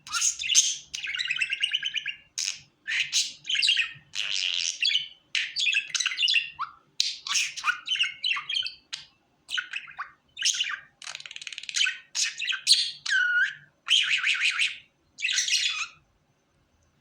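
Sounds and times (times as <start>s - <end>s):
budgerigar chirping and chattering: 0.0s - 16.0s.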